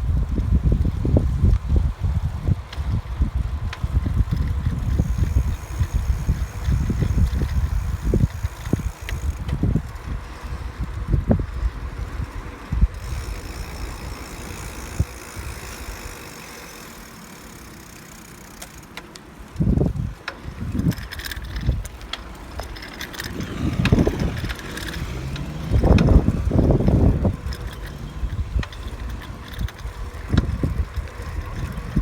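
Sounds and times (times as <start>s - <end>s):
wind buffeting microphone: 0.0s - 16.6s, 19.5s - 32.0s.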